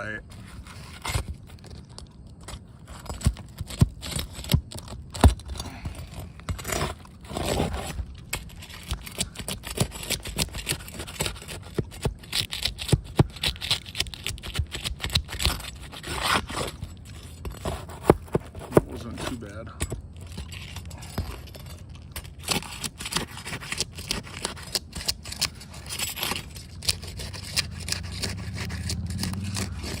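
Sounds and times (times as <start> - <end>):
roof shingles scraping and cracking: 0.2 - 30.0.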